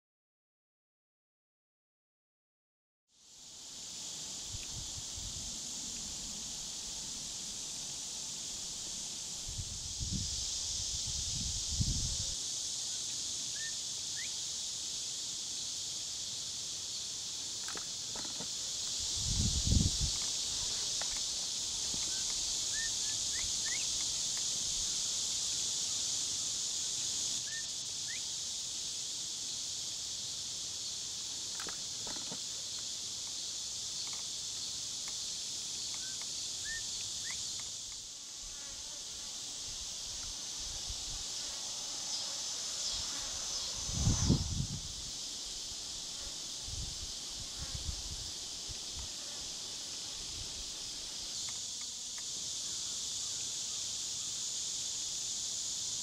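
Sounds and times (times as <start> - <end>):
insects droning in grass: 3.1 - 56.0.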